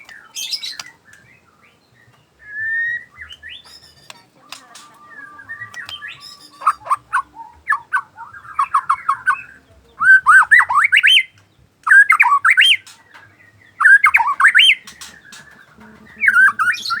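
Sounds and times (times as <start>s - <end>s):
bird chattering: 0.0s - 17.0s
songbird whistling: 0.0s - 17.0s.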